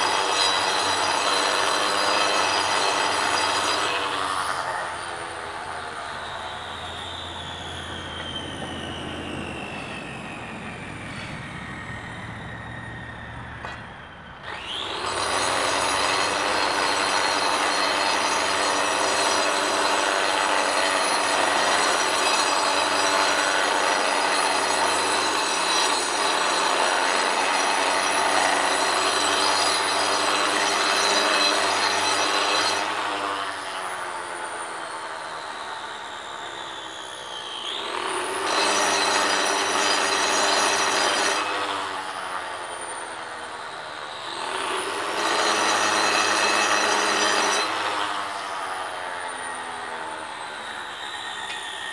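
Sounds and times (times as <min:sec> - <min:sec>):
angle grinder cutting stone: 0:00.0 - 0:07.6, 0:14.4 - 0:51.9.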